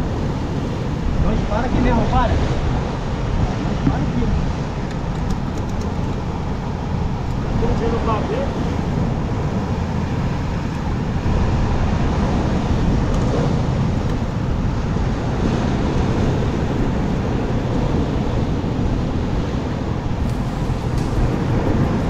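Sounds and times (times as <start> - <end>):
sea surf on rocks: 0.0 - 22.0
wind buffeting microphone: 0.0 - 22.0.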